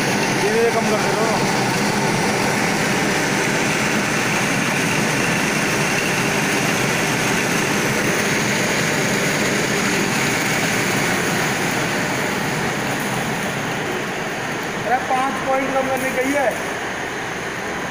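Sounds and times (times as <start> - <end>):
stranding machine running: 0.0 - 17.9.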